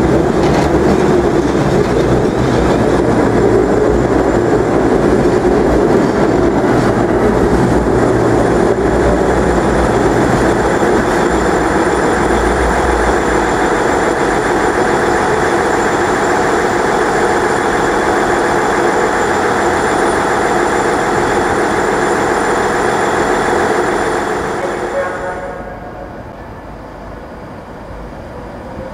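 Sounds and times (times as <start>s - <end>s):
high whine: 0.0s - 27.3s
train wheels rumbling: 0.0s - 28.9s.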